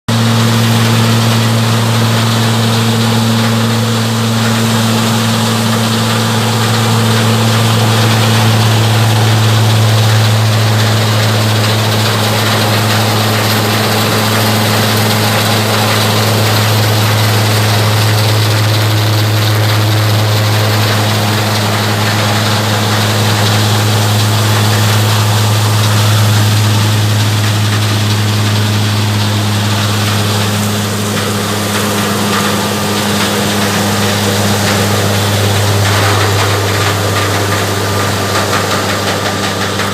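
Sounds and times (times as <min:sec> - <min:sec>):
blower engine hum: 0:00.0 - 0:39.9.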